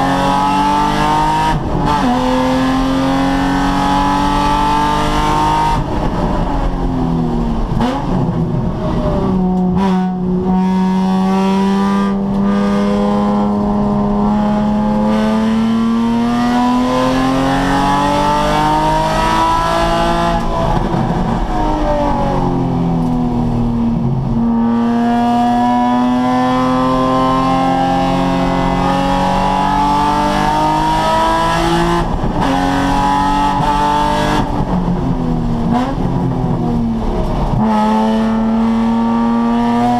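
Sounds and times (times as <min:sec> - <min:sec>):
car engine revving hard: 0:00.0 - 0:06.2, 0:09.3 - 0:22.6, 0:24.3 - 0:35.0, 0:35.6 - 0:39.9.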